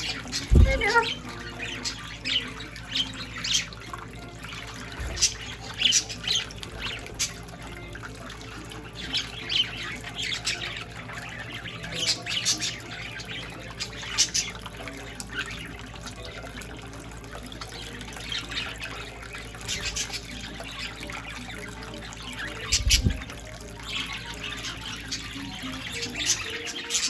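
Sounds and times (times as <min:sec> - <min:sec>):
budgerigars chirping and squawking: 0:00.0 - 0:27.0
fountain water trickling: 0:00.0 - 0:27.0.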